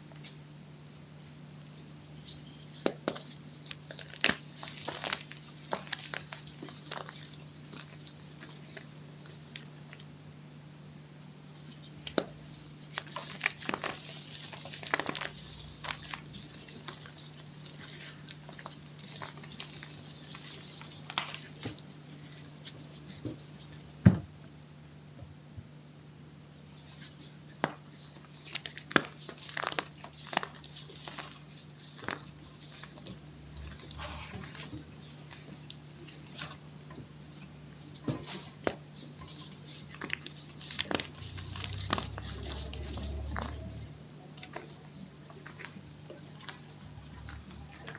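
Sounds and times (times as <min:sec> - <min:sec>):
faint steady hum: 0:00.0 - 0:47.9
chalk crunching and crackling: 0:01.7 - 0:10.1, 0:11.4 - 0:23.9, 0:26.6 - 0:47.9.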